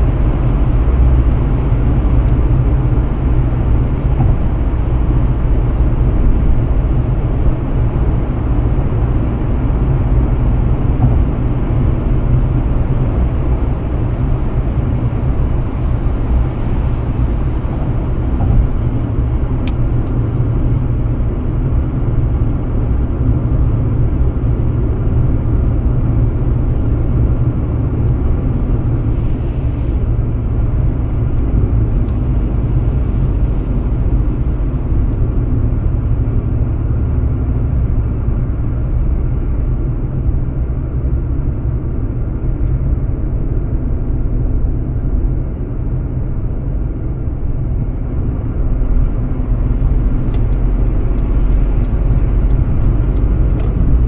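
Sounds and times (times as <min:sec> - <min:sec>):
car engine: 0:00.0 - 0:54.0
tyre and road noise: 0:00.0 - 0:54.0.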